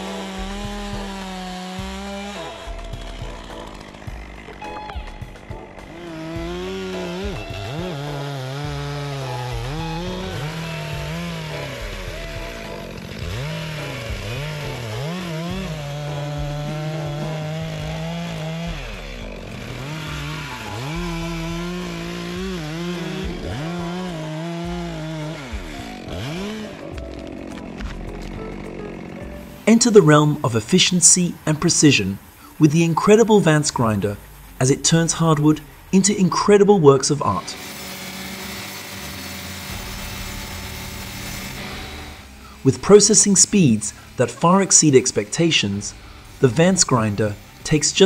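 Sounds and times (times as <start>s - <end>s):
chainsaw cutting wood: 0.0s - 48.0s.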